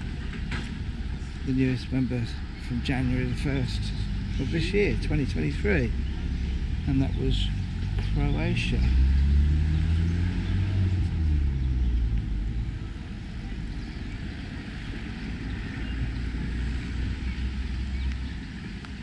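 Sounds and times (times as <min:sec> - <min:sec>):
low background rumble: 0:00.0 - 0:09.3, 0:10.3 - 0:19.0
motor vehicle passing: 0:03.3 - 0:18.8.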